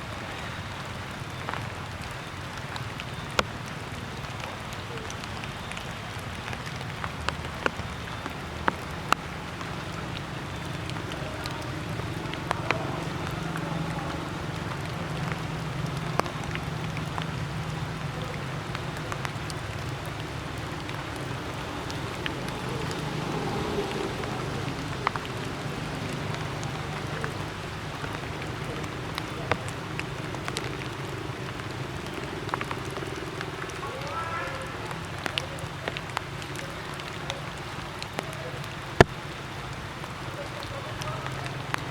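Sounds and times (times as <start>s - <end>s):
water dripping: 0.0s - 41.9s.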